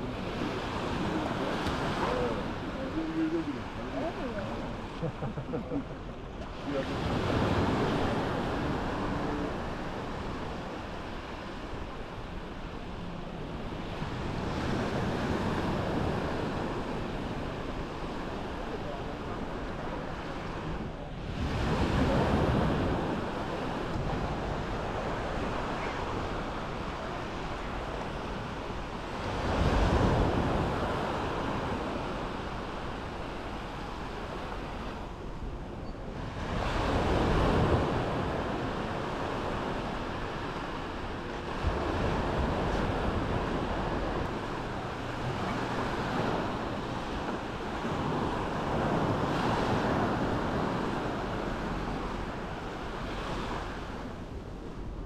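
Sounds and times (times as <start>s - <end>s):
waves washing on shore: 0.0s - 55.0s
wind on microphone: 0.0s - 55.0s.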